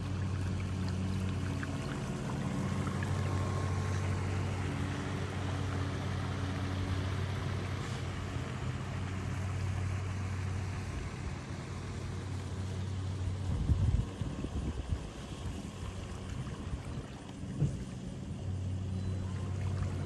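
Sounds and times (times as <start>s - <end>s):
low motor hum: 0.0s - 20.0s
water noise: 0.0s - 20.0s.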